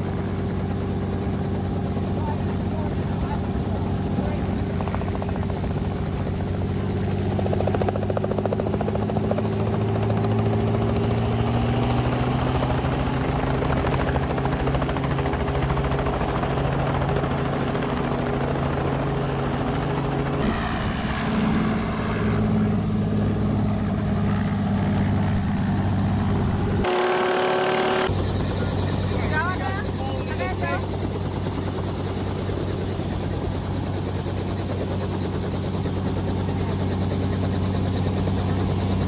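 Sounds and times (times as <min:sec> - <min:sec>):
helicopter rotor chop: 0:00.0 - 0:39.0.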